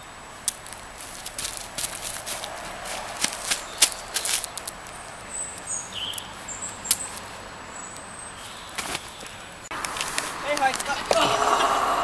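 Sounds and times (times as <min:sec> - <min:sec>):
small birds chirping: 0:01.2 - 0:11.2.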